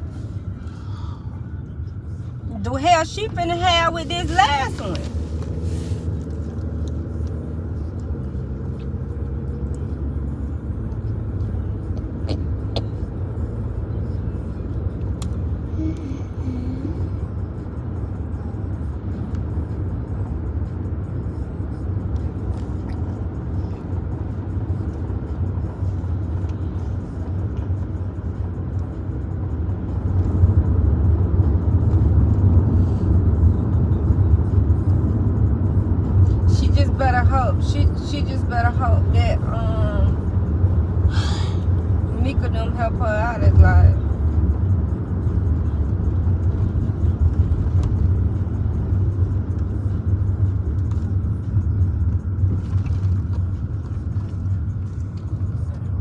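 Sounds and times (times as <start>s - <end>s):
car cabin road noise: 0.0s - 56.0s.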